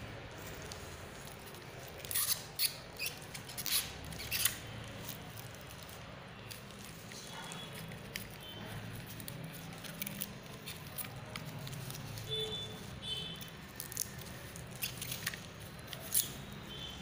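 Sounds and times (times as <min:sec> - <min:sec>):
plastic rustling and crinkling: 0:00.0 - 0:17.0.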